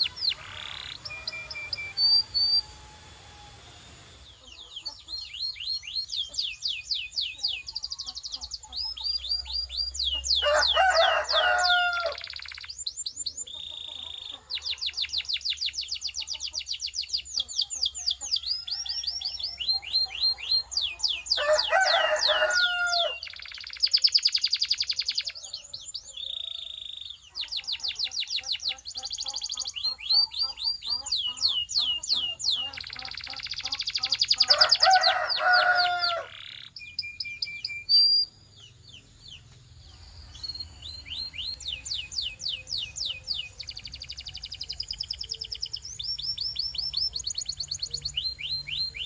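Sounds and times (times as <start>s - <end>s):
canary singing: 0.0s - 49.0s.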